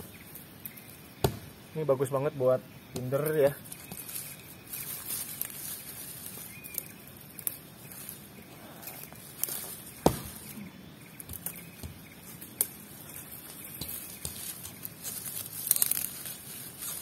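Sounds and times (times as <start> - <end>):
dry leaves and twigs crackling: 0.0 - 17.0.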